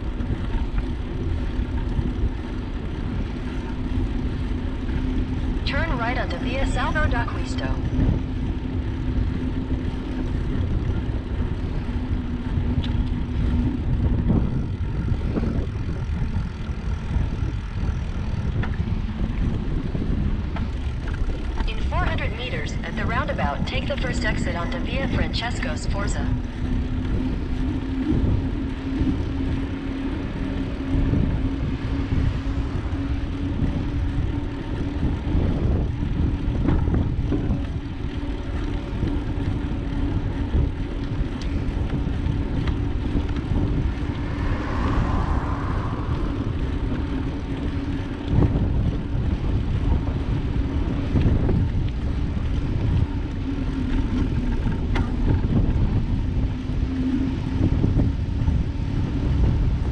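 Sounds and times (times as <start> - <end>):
road rumble: 0.0 - 59.9
steady low hum: 0.0 - 59.9
wind on microphone: 0.0 - 59.9.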